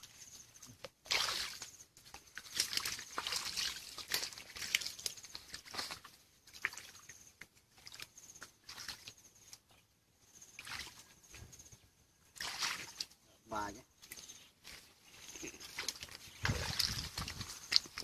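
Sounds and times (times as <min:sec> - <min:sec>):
splashing in a muddy stream: 0:00.0 - 0:11.6, 0:12.2 - 0:13.4, 0:14.0 - 0:18.0.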